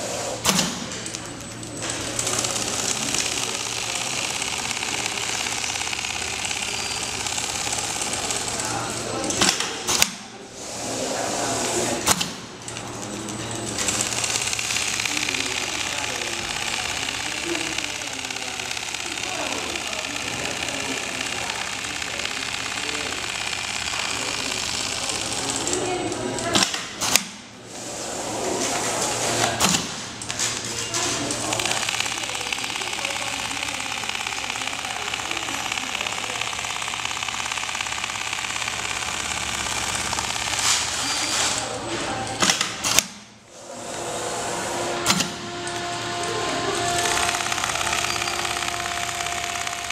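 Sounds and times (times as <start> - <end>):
sewing machine stitching: 2.0 - 12.4, 13.6 - 41.7, 42.4 - 49.9.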